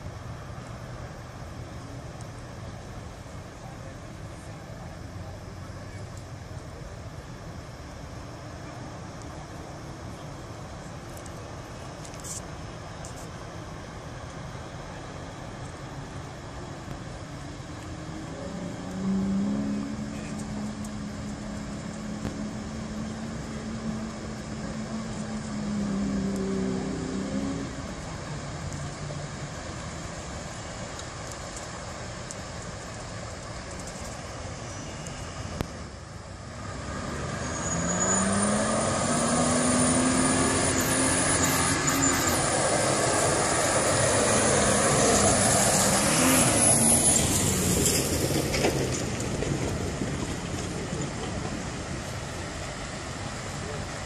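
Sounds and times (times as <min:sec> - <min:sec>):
rushing water: 0:00.0 - 0:54.0
suv engines revving: 0:00.0 - 0:54.0.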